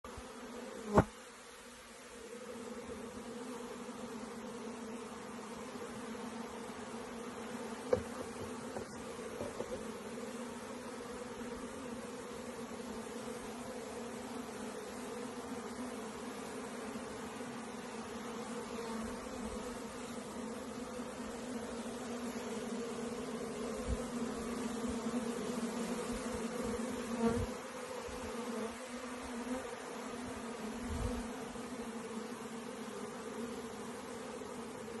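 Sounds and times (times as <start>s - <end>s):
honeybees buzzing: 0.1s - 35.0s.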